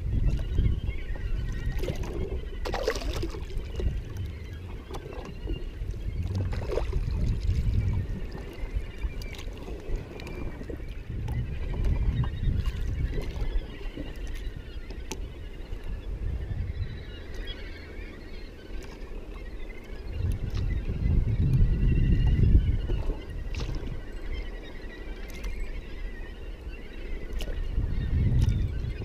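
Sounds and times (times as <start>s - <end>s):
water lapping against hull: 0.0s - 29.0s.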